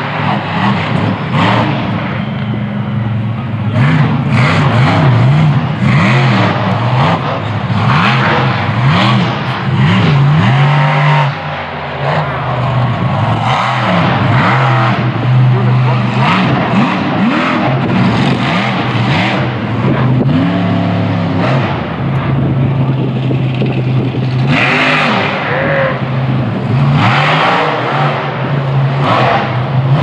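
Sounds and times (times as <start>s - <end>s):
monster truck engine revving: 0.0s - 30.0s.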